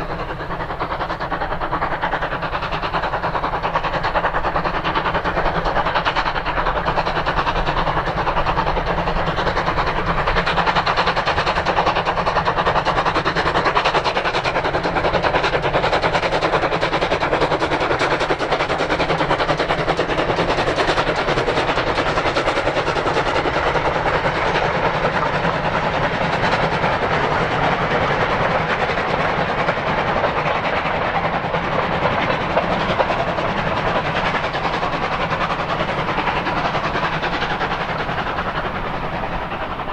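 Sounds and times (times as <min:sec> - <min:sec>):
steam locomotive and wagons rushing: 0:00.0 - 0:39.9.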